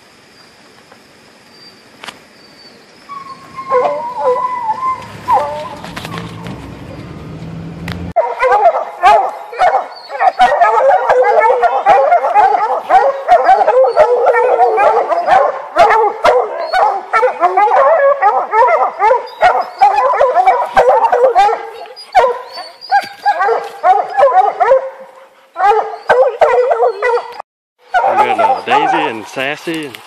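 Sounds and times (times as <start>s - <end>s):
hounds barking and howling: 3.1s - 7.6s, 8.2s - 29.6s.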